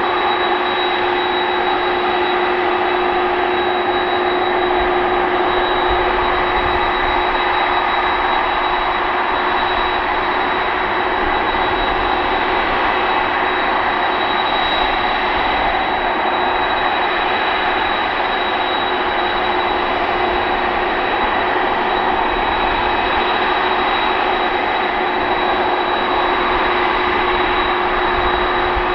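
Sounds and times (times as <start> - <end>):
jet engines idling: 0.0 - 28.9.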